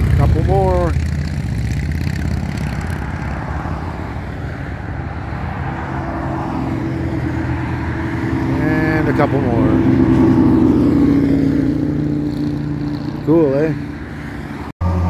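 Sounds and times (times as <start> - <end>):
motorcycle approaching: 0.0 - 15.0
motorcycles riding past: 0.0 - 15.0.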